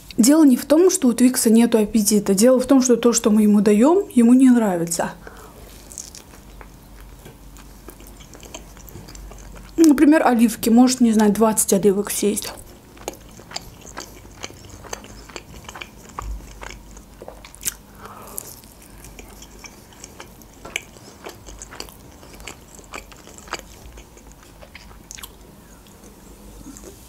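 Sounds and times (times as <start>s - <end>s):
chewing crisp dumplings: 5.3s - 27.0s.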